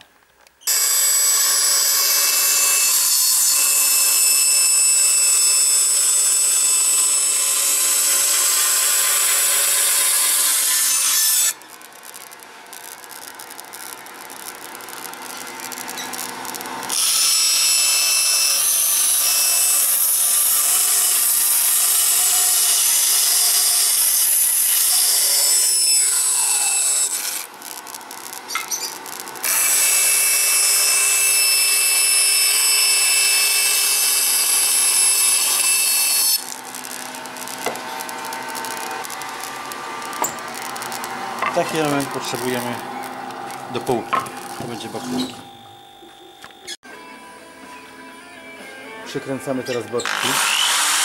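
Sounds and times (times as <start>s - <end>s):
power saw cutting wood: 0.6s - 45.6s, 49.4s - 51.0s.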